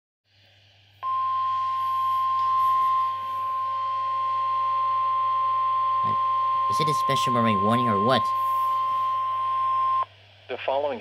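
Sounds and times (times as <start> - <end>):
weather radio alarm tone: 1.0 - 10.0.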